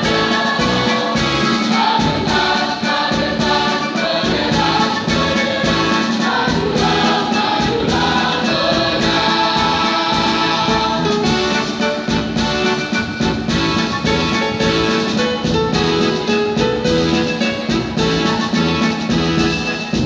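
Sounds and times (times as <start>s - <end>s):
choir singing: 0.0s - 20.0s.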